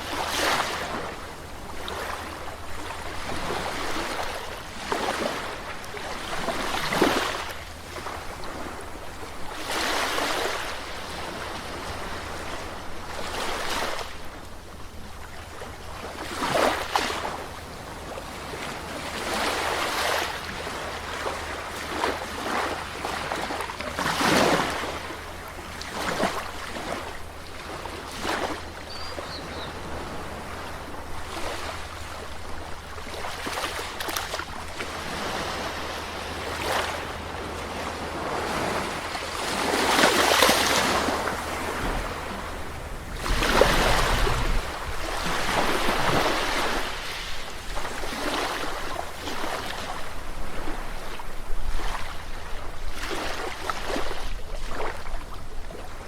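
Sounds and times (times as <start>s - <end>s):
sea waves breaking: 0.0s - 14.2s, 18.2s - 52.2s.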